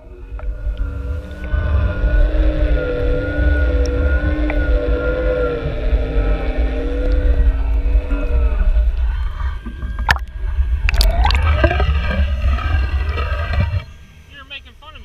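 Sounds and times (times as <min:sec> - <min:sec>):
water rushing rumble: 0:00.0 - 0:14.2
underwater motor whine: 0:00.0 - 0:14.3.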